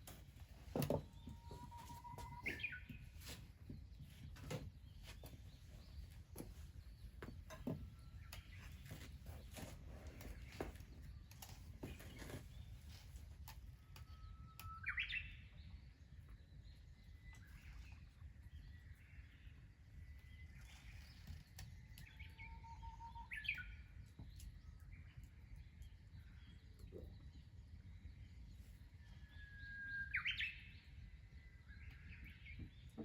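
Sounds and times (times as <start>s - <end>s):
bird singing: 0.0s - 33.0s.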